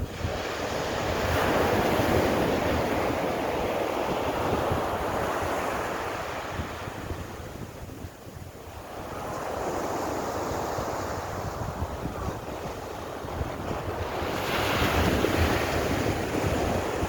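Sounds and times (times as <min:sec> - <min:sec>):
sea waves breaking on shore: 0:00.0 - 0:07.7, 0:08.8 - 0:17.0
wind buffeting microphone: 0:00.0 - 0:17.0.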